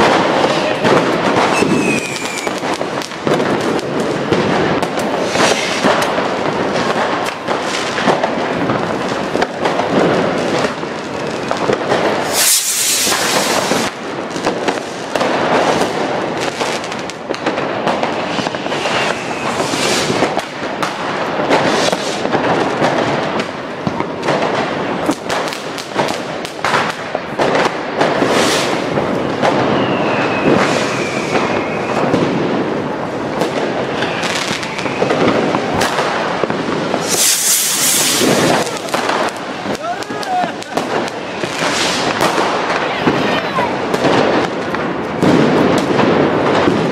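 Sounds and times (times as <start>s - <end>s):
firecracker bangs and crackles: 0.0s - 46.9s
whistling fireworks: 0.0s - 46.9s.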